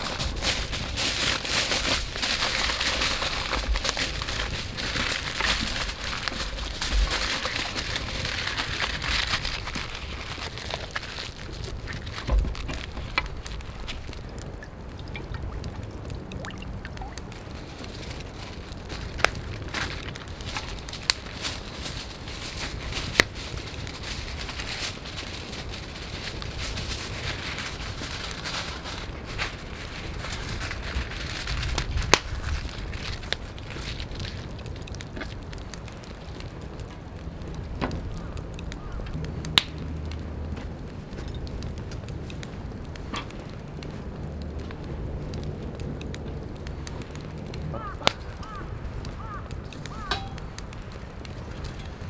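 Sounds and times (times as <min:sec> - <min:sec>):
foil and paper crinkling: 0:00.0 - 0:14.4, 0:17.0 - 0:52.0
wood fire crackling: 0:00.0 - 0:52.0.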